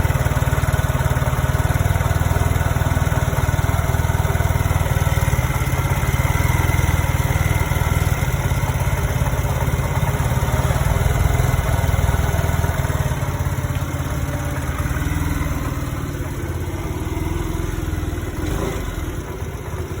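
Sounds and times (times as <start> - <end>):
scooter engine idling: 0.0 - 20.0.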